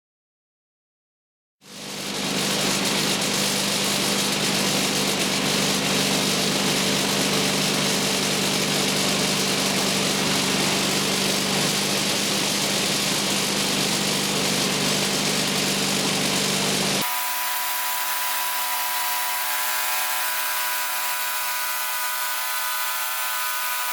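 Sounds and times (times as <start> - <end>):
band sawmill engine running: 1.6 - 23.9.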